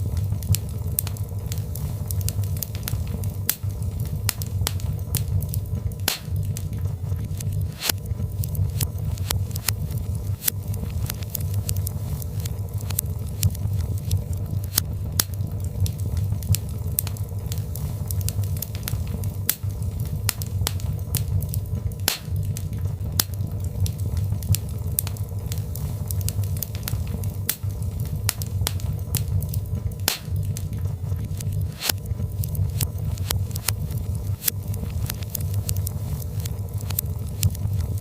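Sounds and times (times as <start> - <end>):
fire low rumble: 0.0 - 38.0
log fire crackling and popping: 0.0 - 38.0.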